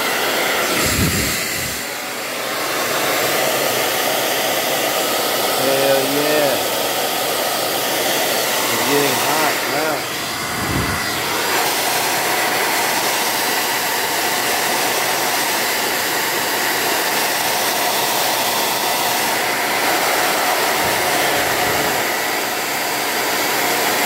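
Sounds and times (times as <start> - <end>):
hair dryer blowing air: 0.0 - 24.0.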